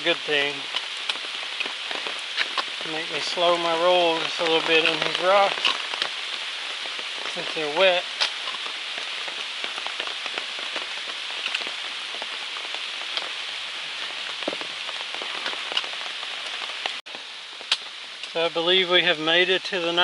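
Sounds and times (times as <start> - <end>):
rain drops hitting: 0.0 - 20.0.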